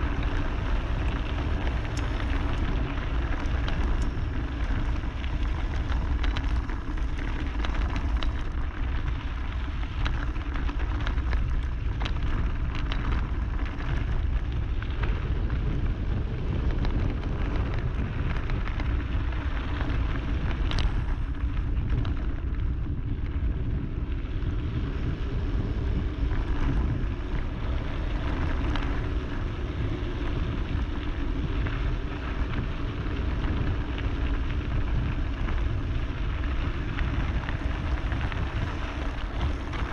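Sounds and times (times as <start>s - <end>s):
bike tyres rolling over gravel: 0.0s - 39.9s
stones and bike rattling: 0.0s - 39.9s
wind rumble on microphone: 0.0s - 39.9s.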